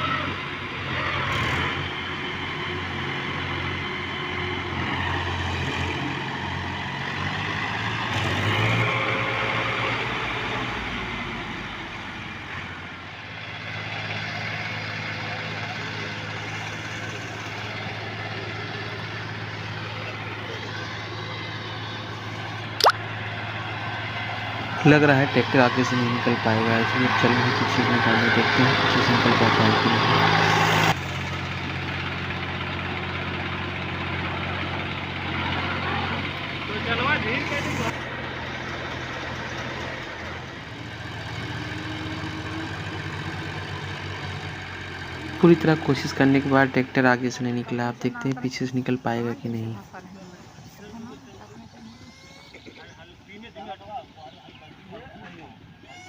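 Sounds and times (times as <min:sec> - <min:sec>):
tractor diesel engine running: 0:00.0 - 0:55.8.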